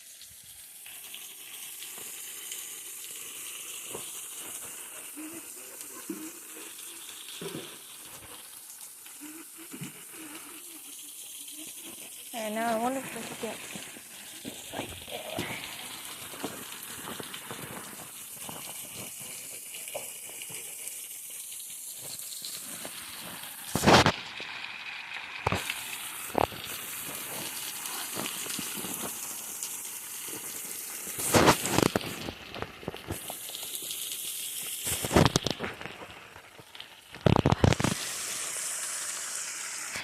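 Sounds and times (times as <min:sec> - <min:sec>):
waterfall hissing: 0:00.0 - 0:40.0.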